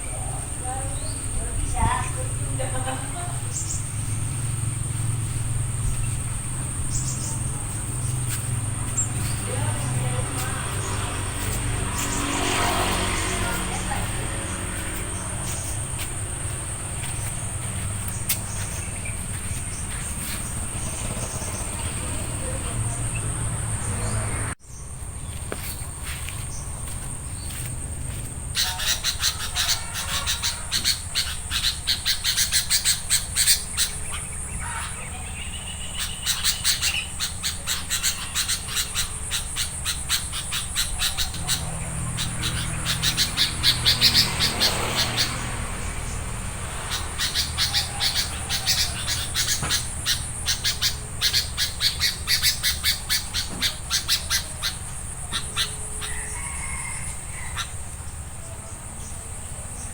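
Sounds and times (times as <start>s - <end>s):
bulbuls calling: 0.0s - 59.9s
high insect drone: 0.0s - 59.9s.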